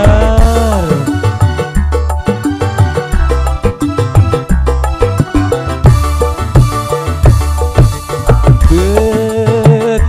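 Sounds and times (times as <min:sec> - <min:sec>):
keyboard: 0:00.0 - 0:10.0.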